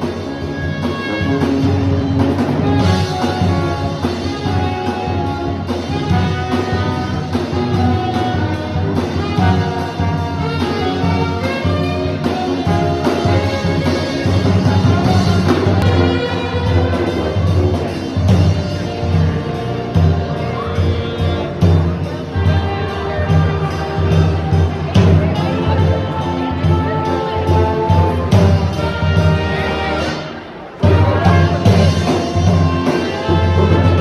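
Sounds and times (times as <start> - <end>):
loud instrumental music: 0.0 - 34.0.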